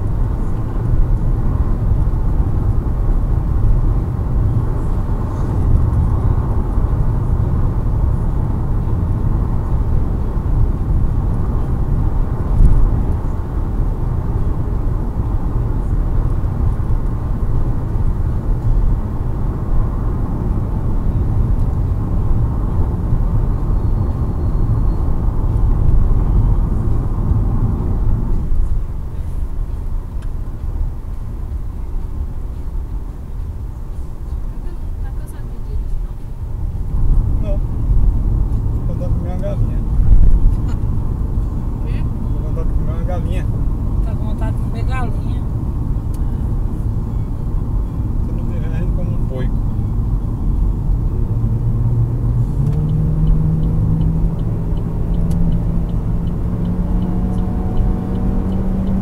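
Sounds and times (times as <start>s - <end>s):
tyre and wind road noise: 0.0s - 59.0s.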